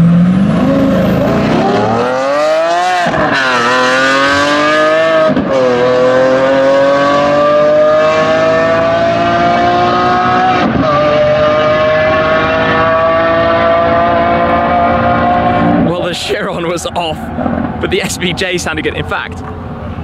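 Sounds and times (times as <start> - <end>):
second car accelerating: 0.0 - 20.0
sports car engine accelerating: 0.0 - 20.0.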